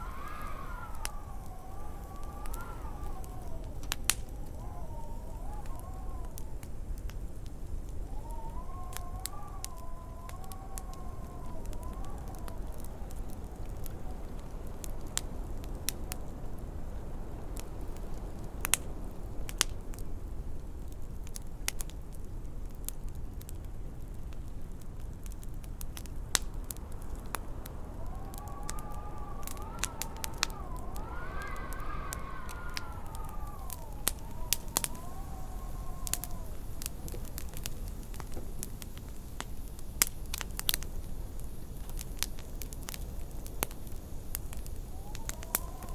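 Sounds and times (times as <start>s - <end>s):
wind howling whistle: 0.0s - 20.1s, 26.0s - 45.9s
low wind rumble: 0.0s - 22.6s, 23.3s - 45.9s
wood fire crackling: 0.0s - 45.9s.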